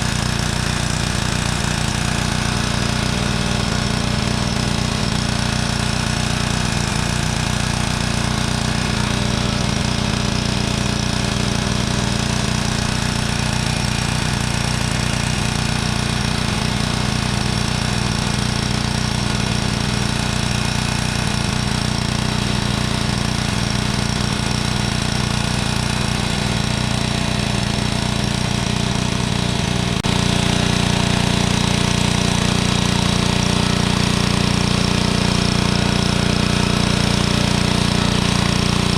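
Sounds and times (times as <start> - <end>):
engine-driven machine droning: 0.0 - 38.9.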